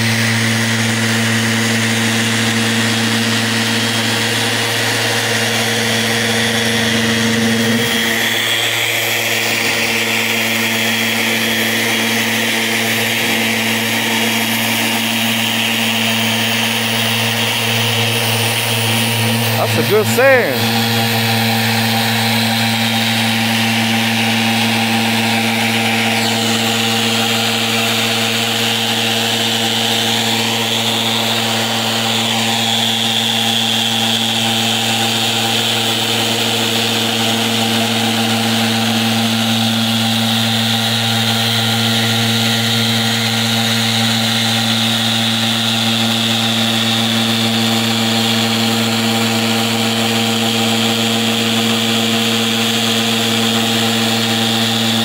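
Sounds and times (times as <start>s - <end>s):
orbital sander running: 0.0s - 12.3s, 20.6s - 55.0s.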